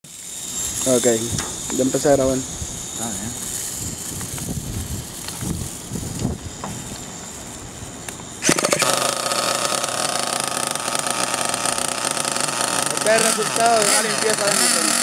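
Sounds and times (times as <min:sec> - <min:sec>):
small nitro engine running: 0:00.0 - 0:15.0.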